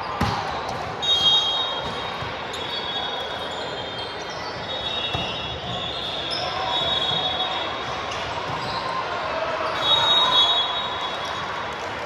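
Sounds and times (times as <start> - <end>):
crowd hubbub: 0.0 - 12.0
sneakers squeaking on court: 0.1 - 11.6.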